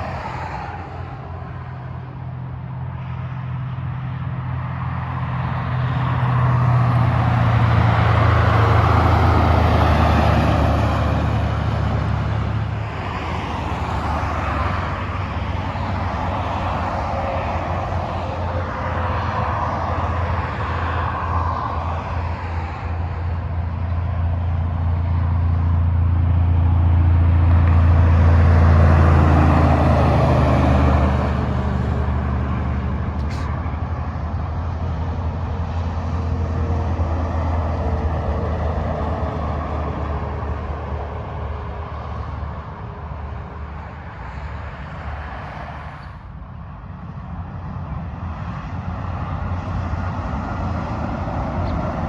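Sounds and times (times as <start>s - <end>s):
low engine drone: 0.0s - 52.0s
vehicles passing on freeway: 0.0s - 52.0s.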